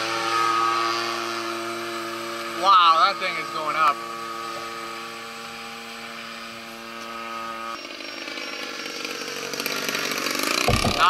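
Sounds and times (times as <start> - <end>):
model plane engine droning: 0.0 - 11.0.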